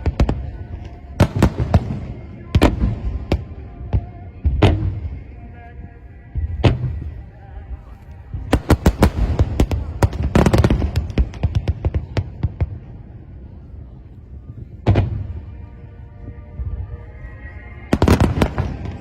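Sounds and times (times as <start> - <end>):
fireworks bangs and crackles: 0.0 - 5.4, 6.3 - 7.4, 8.2 - 15.8, 17.8 - 19.0.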